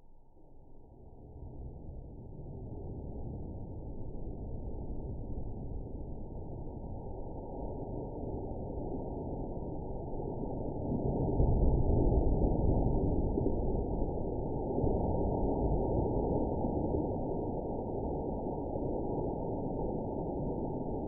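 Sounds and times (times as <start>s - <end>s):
deep rushing boiling noise: 1.2s - 21.0s.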